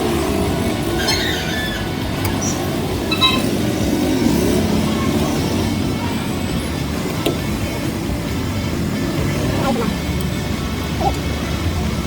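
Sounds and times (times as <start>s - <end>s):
engine low rumble: 0.0s - 12.0s.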